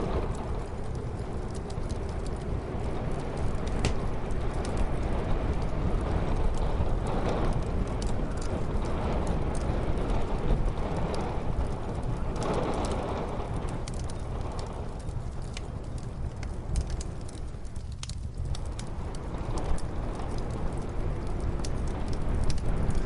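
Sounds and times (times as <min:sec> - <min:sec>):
crackling wood fire: 0:00.0 - 0:23.0
muffled snowstorm wind: 0:00.0 - 0:23.0.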